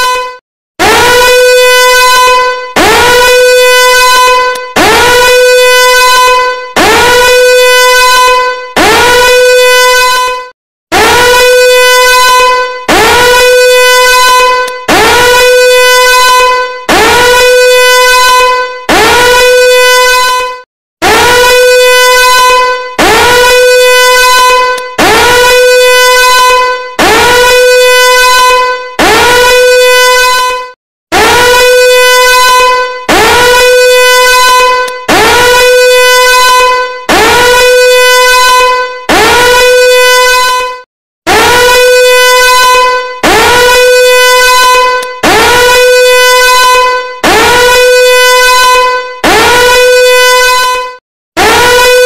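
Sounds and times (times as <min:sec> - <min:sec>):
buzzy alarm horn blasts: 0:00.0 - 0:52.0.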